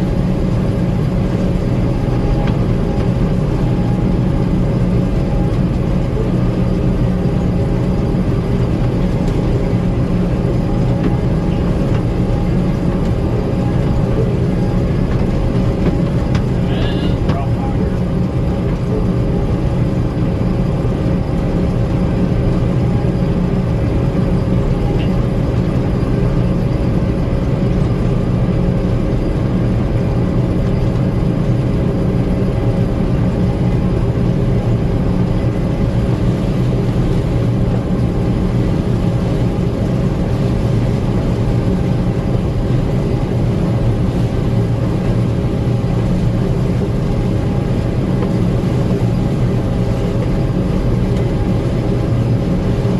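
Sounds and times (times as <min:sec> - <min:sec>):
combine harvester mechanical drone: 0:00.0 - 0:52.9.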